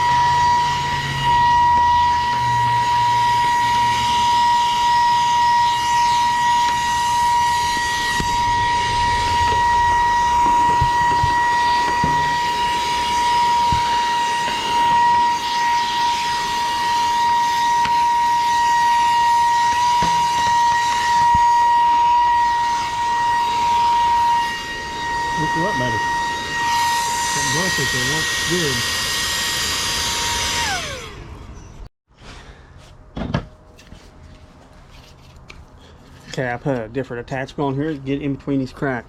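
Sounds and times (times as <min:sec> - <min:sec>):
mini vacuum cleaner whine: 0:00.0 - 0:31.8.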